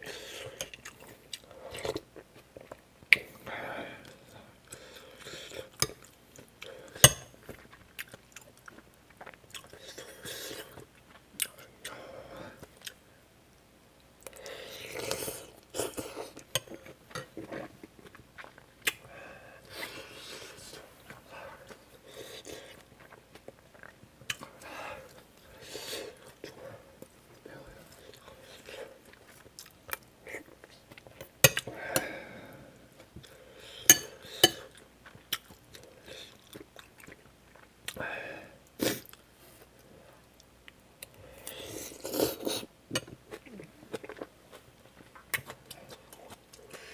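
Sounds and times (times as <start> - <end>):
close chewing mouth sounds: 0.2 - 3.2, 4.0 - 12.0, 14.2 - 31.7, 32.9 - 38.0, 38.6 - 46.9.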